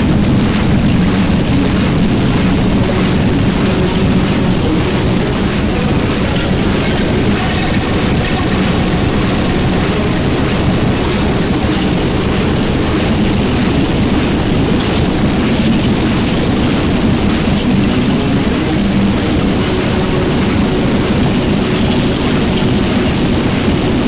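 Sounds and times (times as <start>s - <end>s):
harsh distorted noise music: 0.0s - 24.0s.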